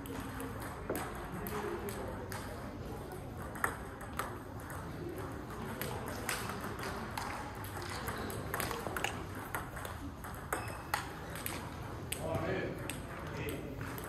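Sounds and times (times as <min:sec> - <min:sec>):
table tennis ball clicking: 0:00.0 - 0:14.0.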